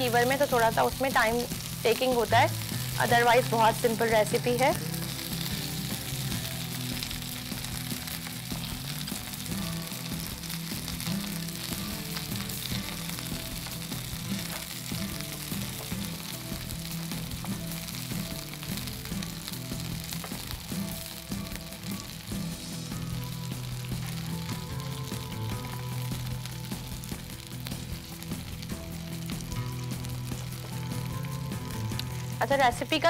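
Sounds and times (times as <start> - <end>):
kebabs sizzling in oil: 0.0 - 33.0
soft background music: 0.0 - 33.0.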